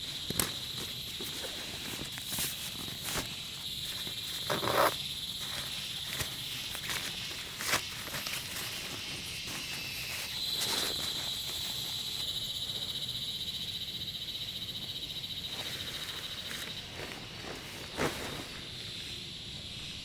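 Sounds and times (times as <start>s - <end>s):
high-pitched trilling insects: 0.0s - 20.0s.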